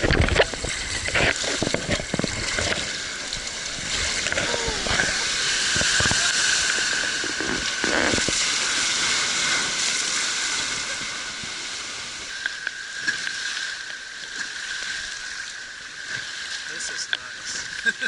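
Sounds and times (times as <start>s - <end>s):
river water rushing and sloshing: 0.0s - 18.0s.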